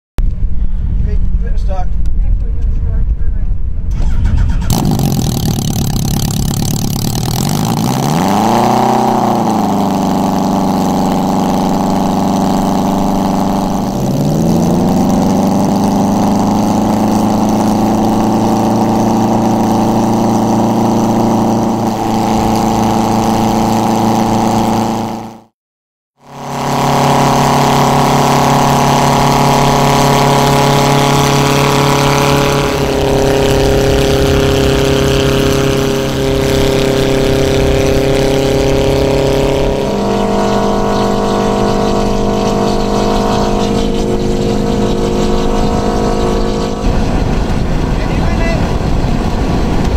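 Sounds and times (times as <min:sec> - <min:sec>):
propeller engines humming: 0:00.2 - 0:25.5, 0:26.2 - 0:49.9.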